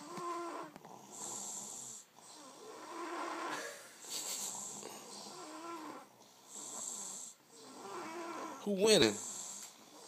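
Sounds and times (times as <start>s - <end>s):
hissing airy snore: 0.0s - 10.0s
low buzzing snore: 0.0s - 10.0s.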